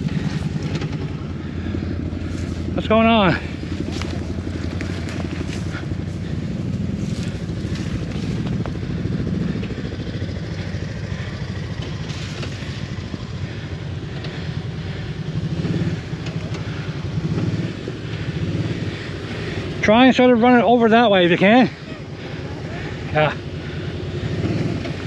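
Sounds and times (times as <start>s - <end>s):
atv engine at low speed: 0.0s - 25.0s.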